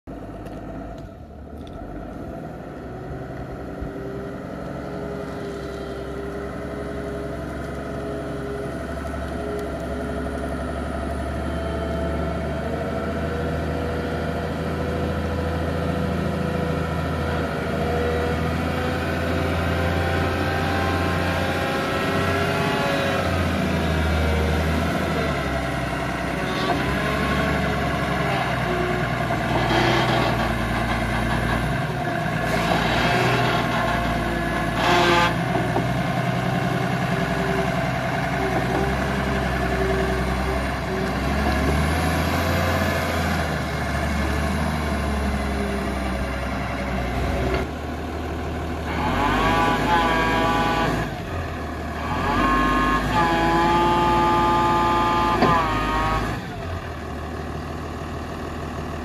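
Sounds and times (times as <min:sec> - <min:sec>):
forklift diesel engine revving: 0:00.1 - 0:59.0.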